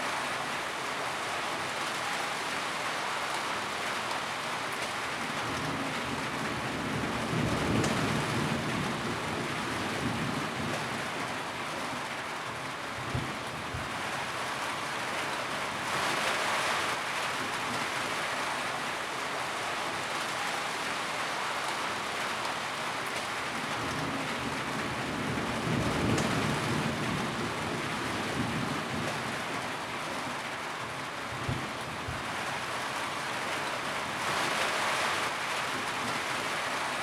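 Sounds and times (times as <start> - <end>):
rain on a tin roof: 0.0 - 37.0.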